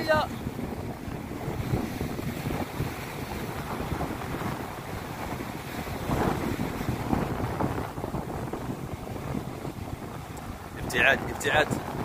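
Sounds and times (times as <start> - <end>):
sea surf against rocks: 0.0 - 12.0
wind rumbling on microphone: 0.0 - 12.0.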